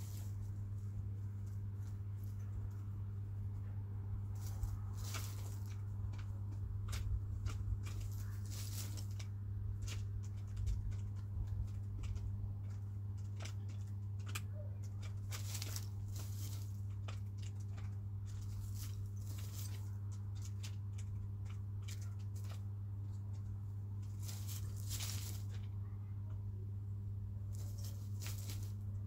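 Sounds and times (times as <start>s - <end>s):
low electrical hum: 0.0s - 29.0s
rustles: 0.0s - 29.0s
chickens pecking taps: 4.3s - 26.4s, 27.5s - 28.8s.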